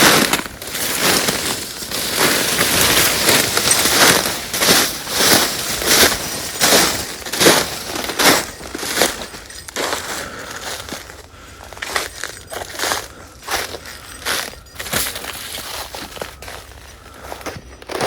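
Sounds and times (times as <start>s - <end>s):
footsteps crunching through dry leaves: 0.0s - 18.0s.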